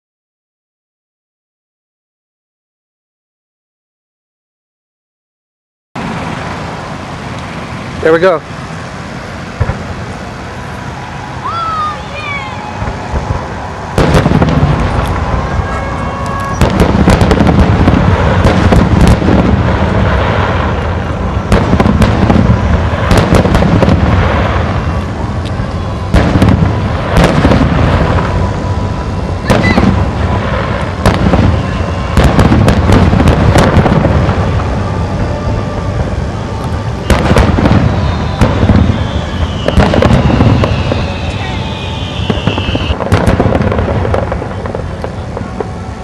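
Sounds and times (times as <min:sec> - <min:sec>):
firework shells booming and crackling: 0:06.0 - 0:46.0.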